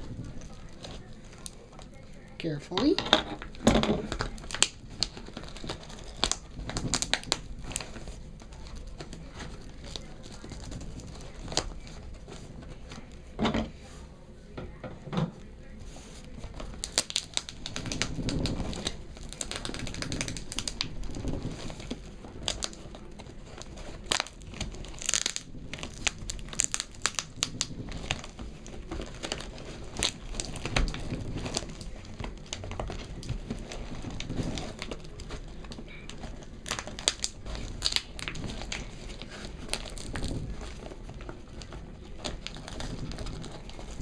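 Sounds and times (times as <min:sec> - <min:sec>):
packaging crinkling and rustling: 0:00.0 - 0:14.0, 0:15.3 - 0:44.0.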